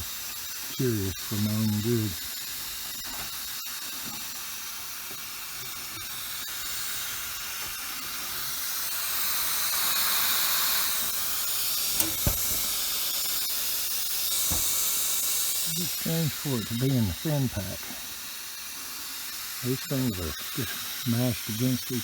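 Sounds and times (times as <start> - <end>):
refrigerant hissing from leak: 0.0 - 22.0.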